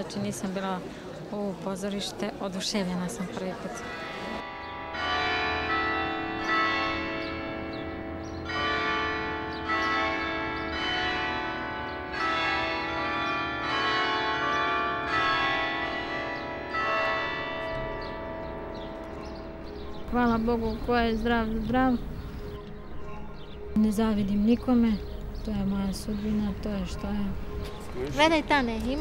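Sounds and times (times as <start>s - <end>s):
church bells ringing: 2.6s - 29.0s.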